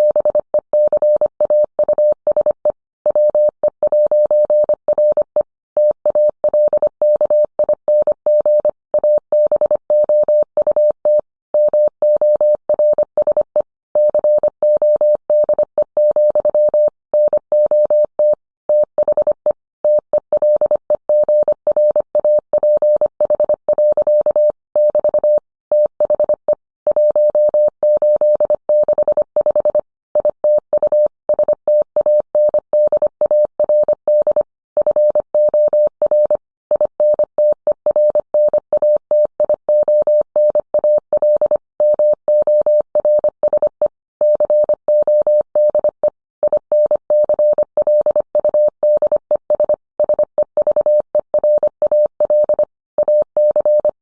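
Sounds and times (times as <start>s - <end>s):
morse code beeps: 0.0s - 54.0s.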